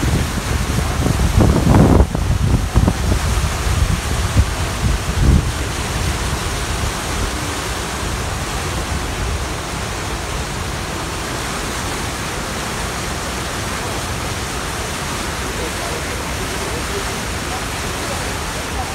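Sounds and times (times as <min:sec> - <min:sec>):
whitewater rushing and churning: 0:00.0 - 0:18.9.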